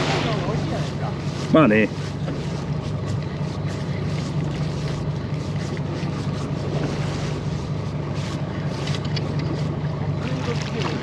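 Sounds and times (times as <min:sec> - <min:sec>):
boat engine humming: 0:00.0 - 0:11.0
water noise: 0:00.0 - 0:11.0
wind: 0:00.0 - 0:11.0.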